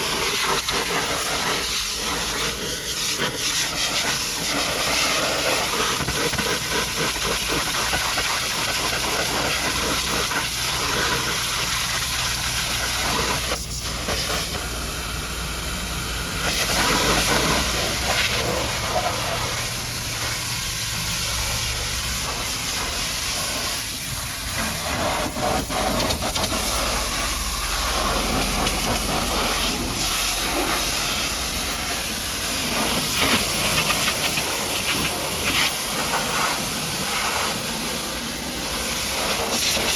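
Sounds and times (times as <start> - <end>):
pressure washer water hiss: 0.0 - 39.9.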